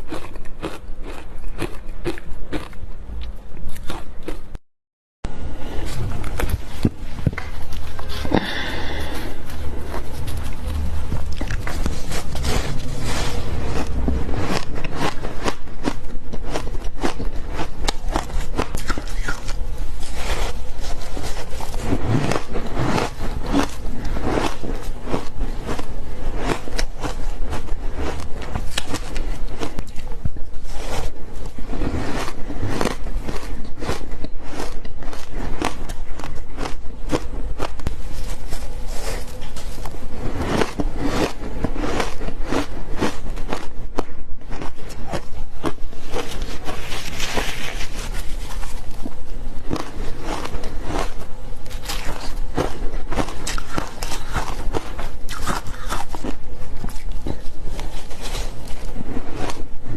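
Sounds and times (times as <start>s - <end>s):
person crunching ice: 0.1s - 2.8s, 8.3s - 30.0s, 30.6s - 59.9s.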